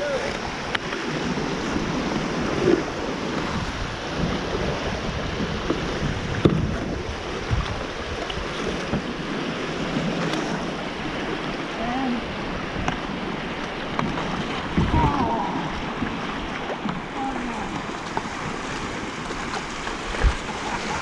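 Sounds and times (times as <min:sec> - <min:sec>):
river water rushing over rapid: 0:00.0 - 0:21.0.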